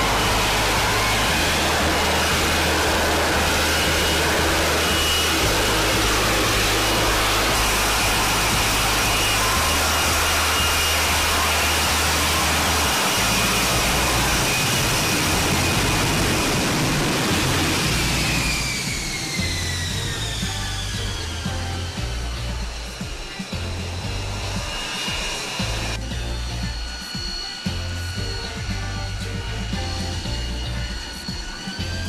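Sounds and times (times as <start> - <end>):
high whine: 0.0 - 32.0
jet engine roar: 0.0 - 32.0.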